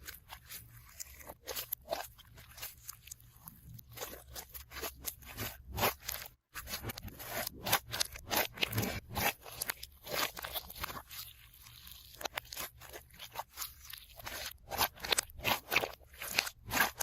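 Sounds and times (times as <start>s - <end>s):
slime crackling and popping: 0.0s - 17.0s.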